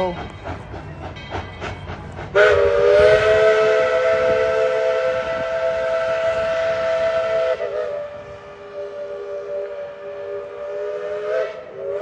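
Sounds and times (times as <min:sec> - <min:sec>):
steam locomotive whistle: 0:02.3 - 0:12.0.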